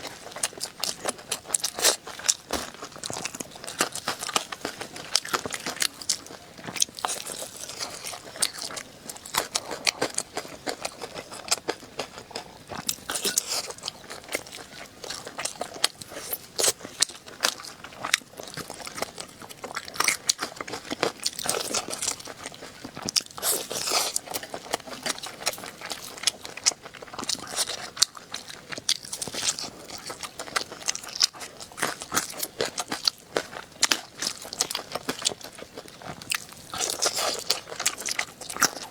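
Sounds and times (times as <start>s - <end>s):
person chewing with crunches: 0.0s - 38.9s.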